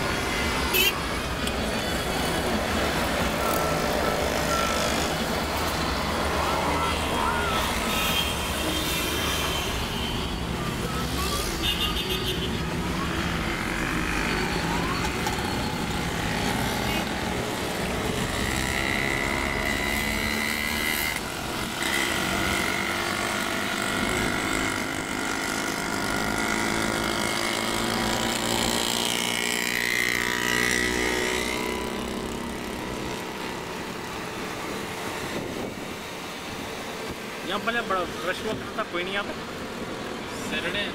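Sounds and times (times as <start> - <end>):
car engine and road noise: 0.0 - 40.9
traffic passing: 0.0 - 40.9.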